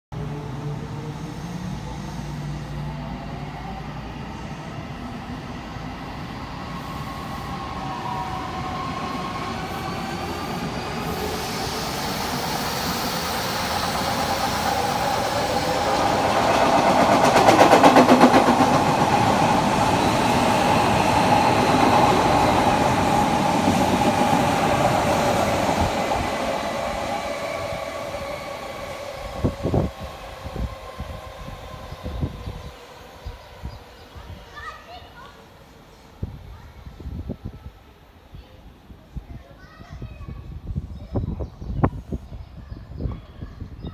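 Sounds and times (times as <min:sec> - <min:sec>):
electric train passing: 0:00.2 - 0:38.2.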